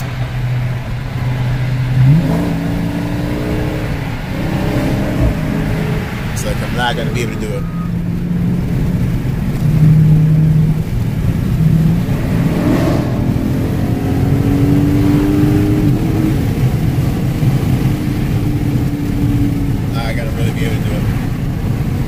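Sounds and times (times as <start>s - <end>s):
car engine drone: 0.0s - 22.0s
road noise: 0.0s - 22.0s.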